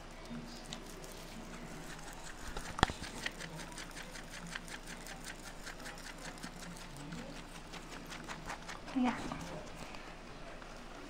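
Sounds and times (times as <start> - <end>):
rabbit chewing grass: 0.0 - 11.0.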